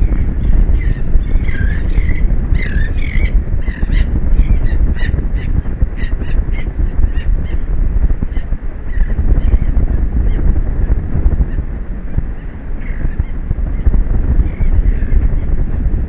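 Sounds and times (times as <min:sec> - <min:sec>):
seabirds calling: 0:00.0 - 0:15.8
wind on microphone: 0:00.0 - 0:16.0.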